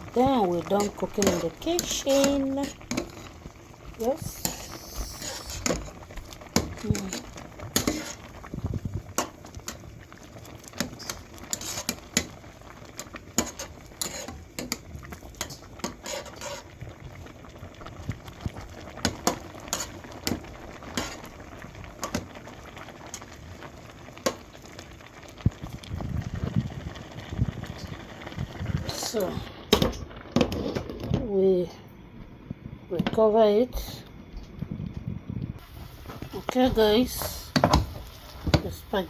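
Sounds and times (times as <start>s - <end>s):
water boiling and bubbling: 0.0s - 39.0s.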